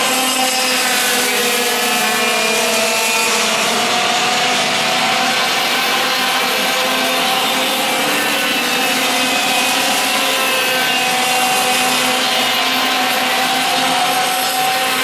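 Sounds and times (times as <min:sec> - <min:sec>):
kart engines whining: 0:00.0 - 0:15.0.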